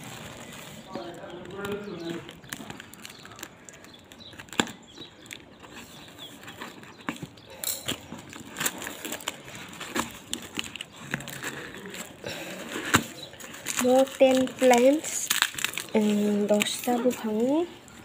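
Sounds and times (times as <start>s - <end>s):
plastic crinkling: 0.0s - 18.0s.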